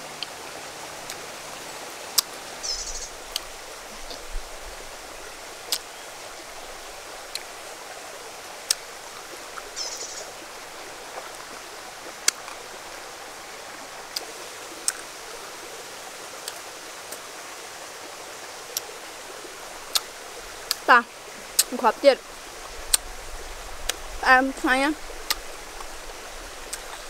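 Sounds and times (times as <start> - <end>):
shallow stream rushing: 0.0 - 27.0.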